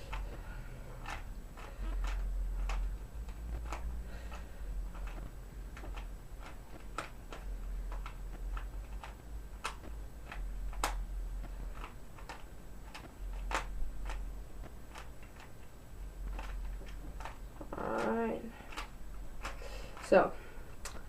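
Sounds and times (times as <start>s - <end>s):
puzzle cube plastic layers clicking: 0.0s - 20.1s.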